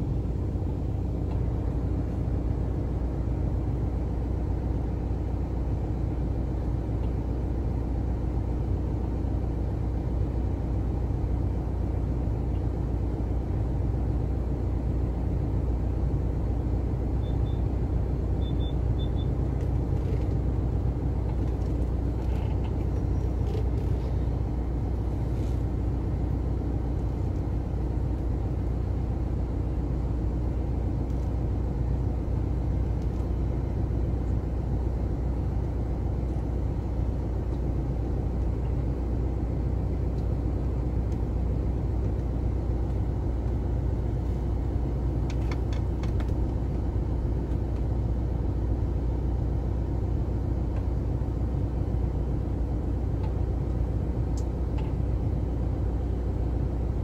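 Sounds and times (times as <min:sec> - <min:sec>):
car engine low rumble: 0:00.0 - 0:57.0.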